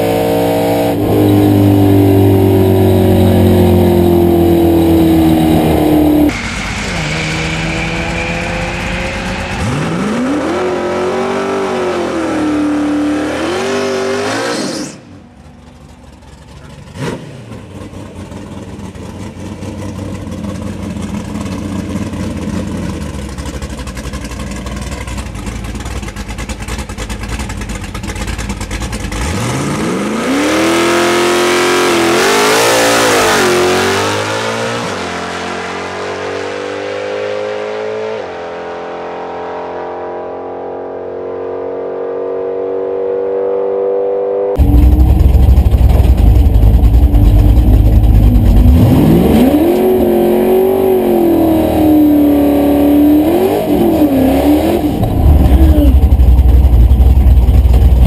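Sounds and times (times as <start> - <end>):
drag car engine revving: 0.0 - 38.5, 44.6 - 58.0.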